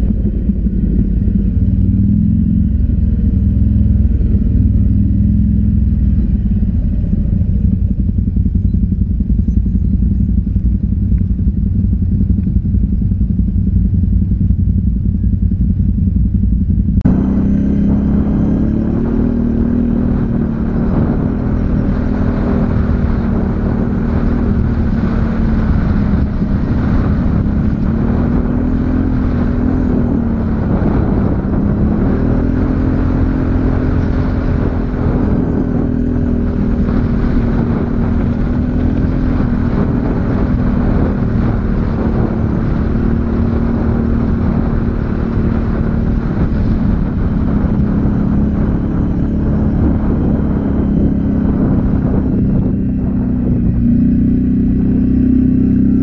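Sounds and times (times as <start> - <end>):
atv engine running: 0.0 - 56.0
heavy low rumble: 0.0 - 56.0.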